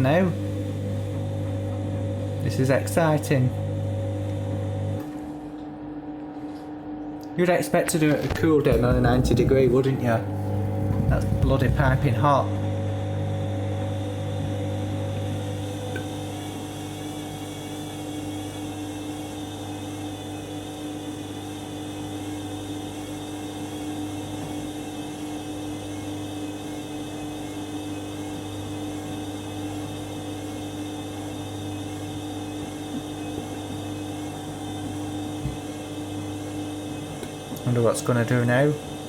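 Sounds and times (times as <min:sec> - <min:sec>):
washing machine motor hum: 0:00.0 - 0:39.0.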